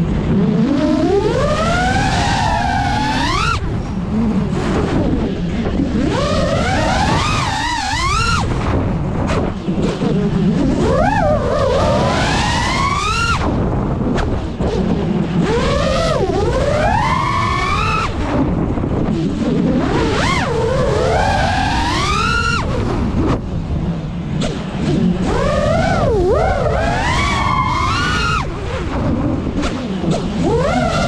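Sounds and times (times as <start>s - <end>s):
quadcopter motors whining: 0.0s - 23.8s, 24.4s - 31.0s
low rushing noise: 0.0s - 31.0s.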